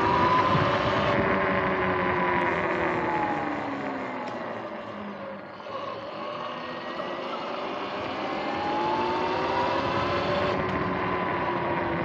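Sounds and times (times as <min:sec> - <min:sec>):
electric motor whining: 0:00.0 - 0:12.0
wind and road noise: 0:00.0 - 0:12.0.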